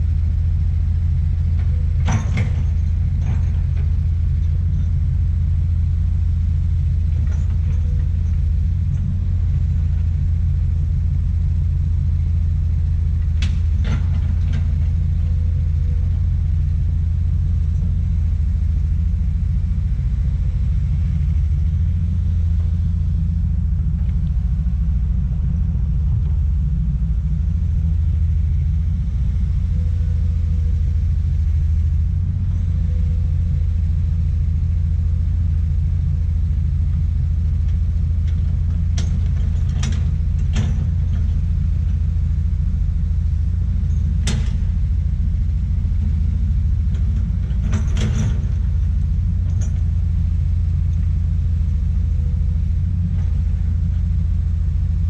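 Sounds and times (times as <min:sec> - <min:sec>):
excavator diesel engine rumbling: 0:00.0 - 0:55.0.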